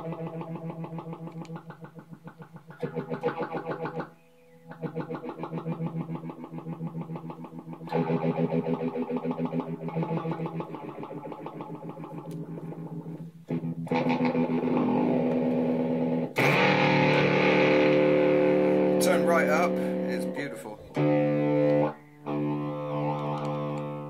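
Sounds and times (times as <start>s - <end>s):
pulsing electric guitar chords: 0.0s - 24.0s.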